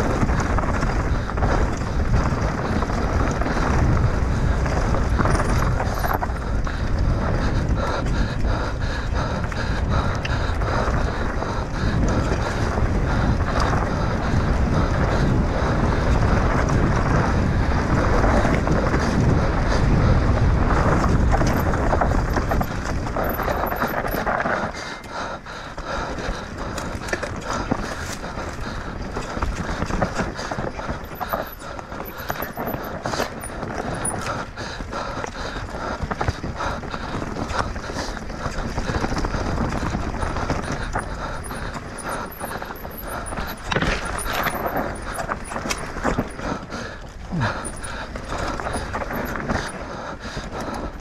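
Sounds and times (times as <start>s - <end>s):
bike rattling over rough trail: 0.0s - 51.0s
tyre noise: 0.0s - 51.0s
wind buffeting microphone: 0.0s - 51.0s.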